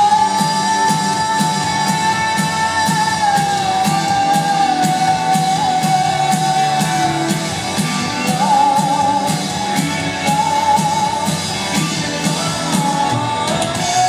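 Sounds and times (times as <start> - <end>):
drum strokes: 0.0 - 14.0
indie rock band playing live: 0.0 - 14.0.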